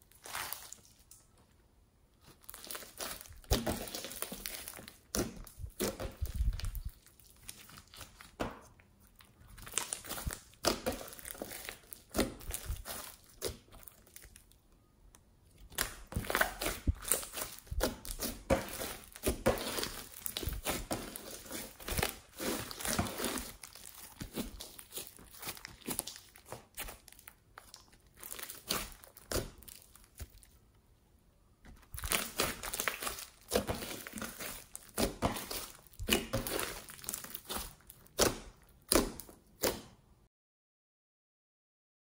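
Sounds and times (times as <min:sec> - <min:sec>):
hands squeezing slime: 0:00.0 - 0:01.3, 0:02.2 - 0:08.4, 0:09.0 - 0:14.5, 0:15.6 - 0:30.6, 0:31.7 - 0:39.8
slime crackling and popping: 0:00.1 - 0:01.2, 0:02.2 - 0:14.6, 0:15.5 - 0:30.6, 0:31.7 - 0:40.0.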